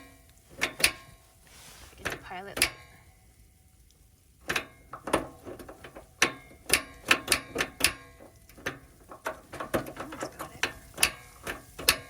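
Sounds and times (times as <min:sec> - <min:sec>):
heater igniter clicking: 0:00.0 - 0:01.2, 0:02.0 - 0:03.1, 0:03.8 - 0:12.0.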